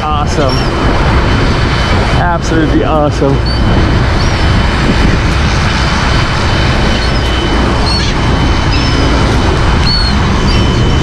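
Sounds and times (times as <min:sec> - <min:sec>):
gulls crying: 0:00.0 - 0:11.0
steady rumbling rush: 0:00.0 - 0:11.0.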